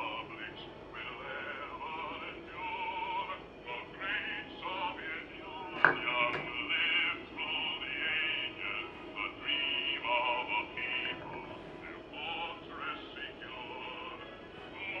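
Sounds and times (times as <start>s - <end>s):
song with singing from phone speaker: 0.0s - 15.0s.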